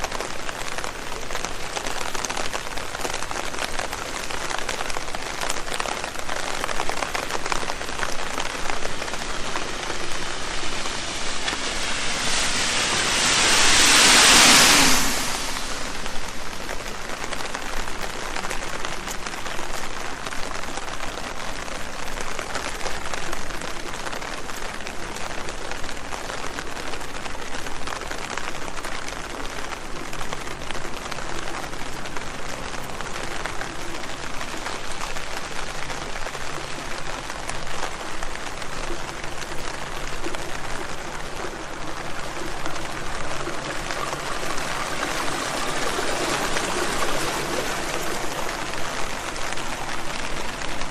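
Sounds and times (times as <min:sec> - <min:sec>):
rain falling on leaves: 0:00.0 - 0:50.9.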